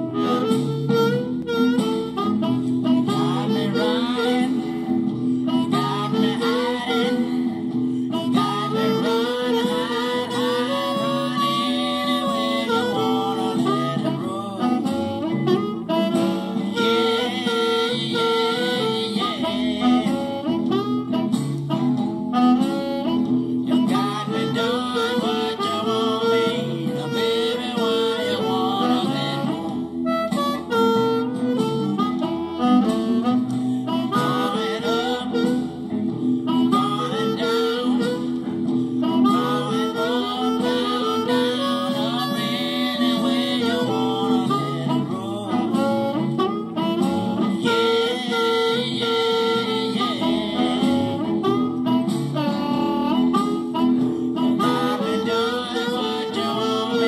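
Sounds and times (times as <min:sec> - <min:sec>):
blues backing with guitar: 0:00.0 - 0:57.0
overdriven blues harmonica: 0:00.0 - 0:57.0.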